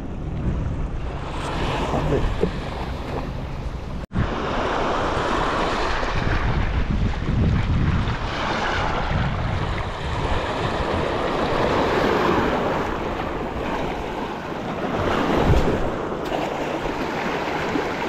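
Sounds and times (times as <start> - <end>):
wind buffeting microphone: 0.0 - 18.0
surf washing against rocks: 1.2 - 18.0.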